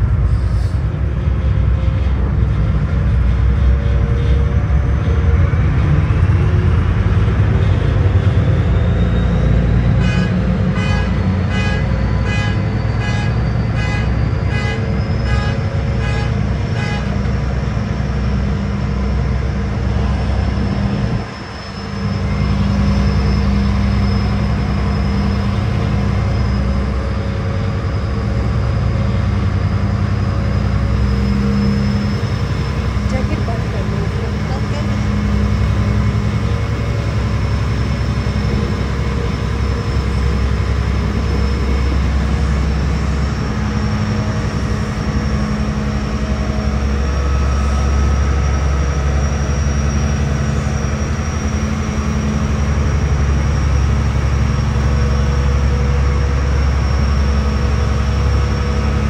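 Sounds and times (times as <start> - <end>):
rising whine: 0.0 - 59.0
ship engines rumbling: 0.0 - 59.0.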